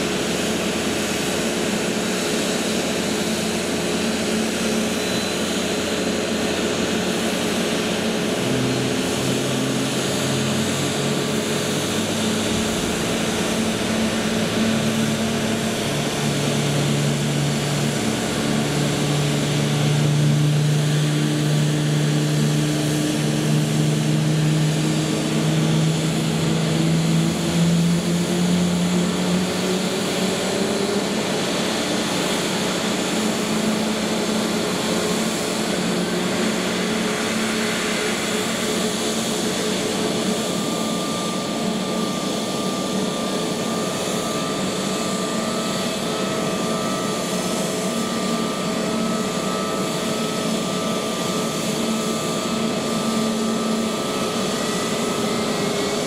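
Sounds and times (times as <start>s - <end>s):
jet engines whining hum: 0.0s - 56.0s.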